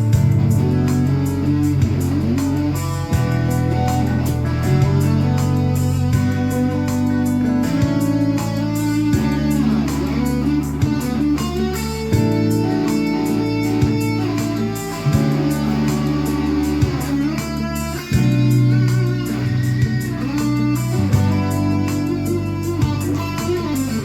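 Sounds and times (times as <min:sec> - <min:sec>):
electric guitar playing: 0:00.0 - 0:24.0
steady beat: 0:00.0 - 0:24.0
sustained low notes: 0:00.0 - 0:24.0.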